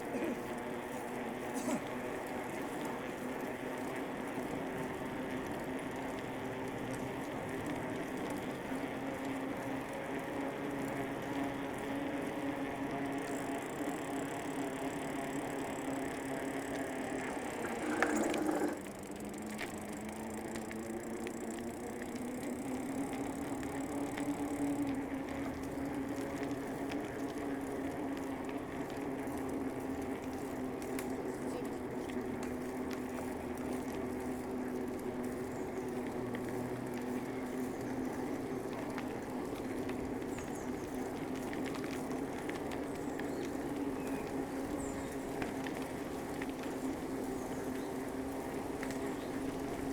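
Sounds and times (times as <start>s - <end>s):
bicycle rattle: 0.0s - 49.9s
bicycle tyres humming: 0.0s - 49.9s.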